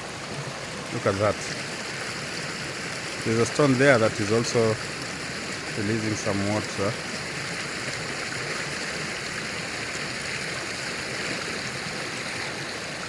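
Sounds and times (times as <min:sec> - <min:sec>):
stream flowing over stones: 0:00.0 - 0:13.0.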